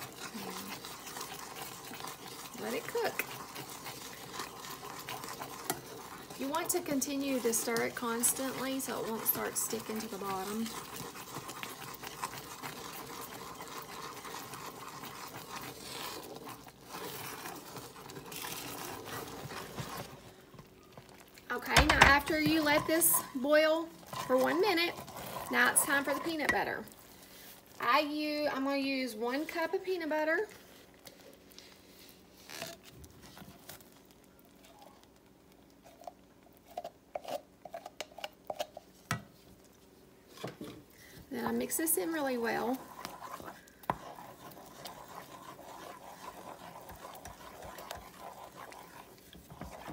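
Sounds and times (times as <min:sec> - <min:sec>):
wooden spoon scraping saucepan: 0:00.0 - 0:33.6, 0:36.7 - 0:38.9, 0:40.2 - 0:49.9
chocolate mixture boiling: 0:00.0 - 0:49.9.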